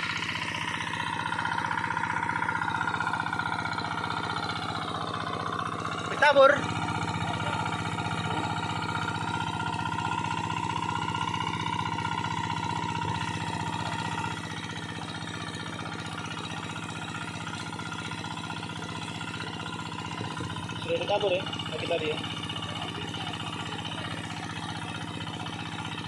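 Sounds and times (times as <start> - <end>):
pump engine running: 0.0 - 26.0.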